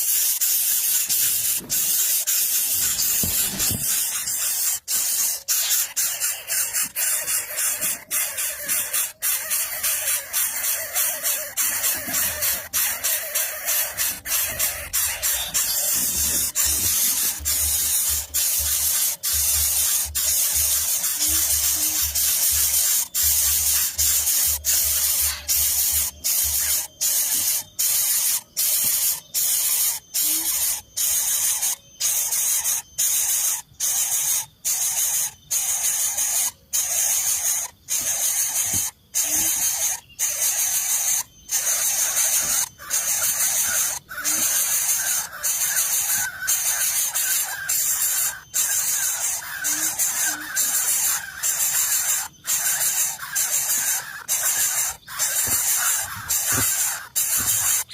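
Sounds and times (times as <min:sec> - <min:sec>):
loud steady hissing: 0:00.0 - 0:06.8, 0:07.6 - 0:57.9.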